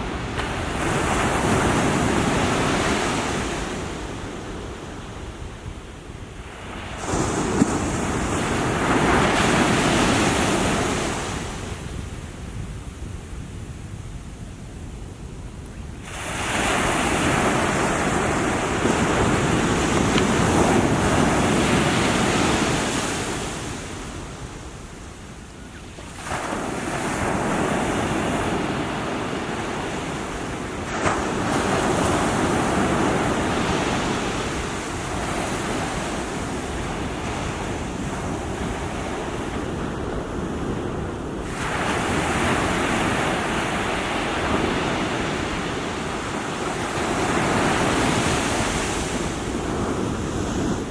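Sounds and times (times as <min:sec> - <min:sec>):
small waves washing ashore: 0:00.0 - 0:12.2, 0:16.0 - 0:50.9
wind noise on microphone: 0:00.0 - 0:50.9.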